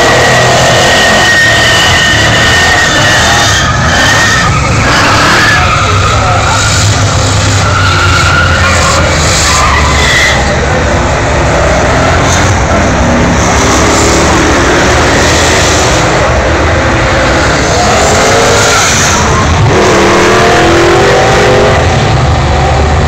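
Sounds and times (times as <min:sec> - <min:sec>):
tyres screeching: 0:00.0 - 0:22.3
high-revving car engine: 0:00.0 - 0:23.0.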